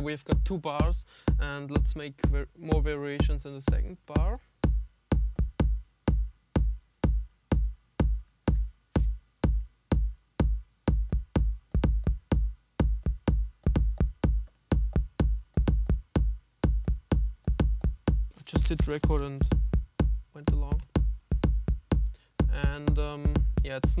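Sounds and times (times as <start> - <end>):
deep kick drum: 0.0 - 24.0
electronic drum beat: 0.0 - 24.0.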